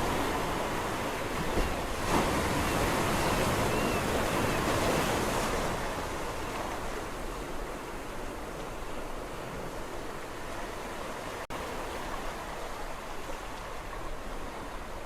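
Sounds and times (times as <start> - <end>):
sea waves washing onto shore: 0.0 - 15.0.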